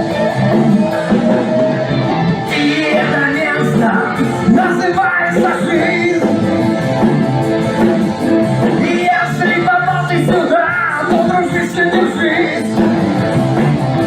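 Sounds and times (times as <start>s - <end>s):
person singing: 0.0s - 6.8s, 8.6s - 13.2s
rock and roll band playing: 0.0s - 14.0s.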